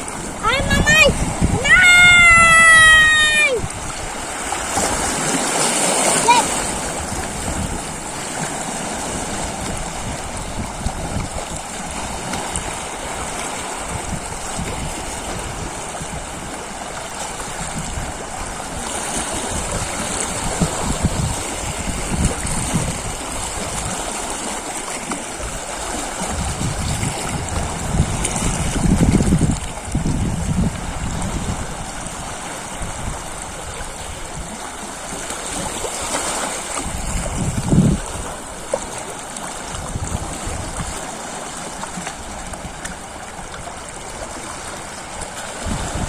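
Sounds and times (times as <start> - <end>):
small waves washing over rocks: 0.0 - 46.0
wind rumbling on microphone: 0.0 - 46.0.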